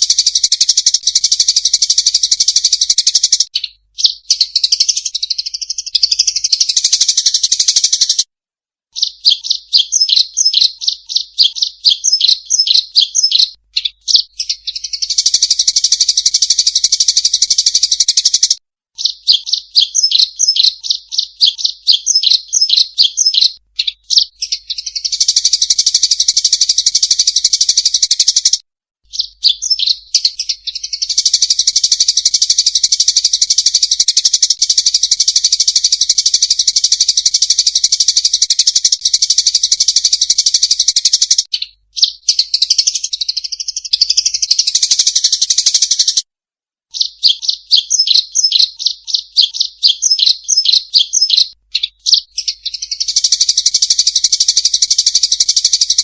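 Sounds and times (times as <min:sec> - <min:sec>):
sparrows chirping and trilling: 0:00.0 - 0:08.3, 0:08.9 - 0:46.2, 0:46.9 - 0:56.0.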